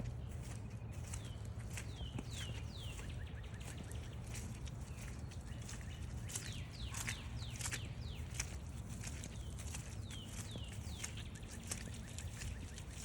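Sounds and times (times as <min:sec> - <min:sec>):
footsteps: 0:00.0 - 0:13.0.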